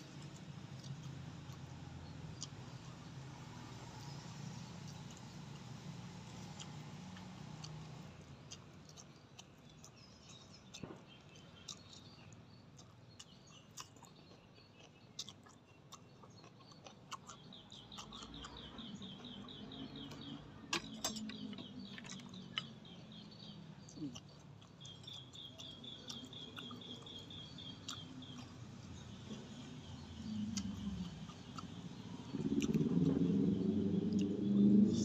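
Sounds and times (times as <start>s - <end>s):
man chewing with mouth clicks: 0.0s - 33.4s, 34.1s - 35.0s.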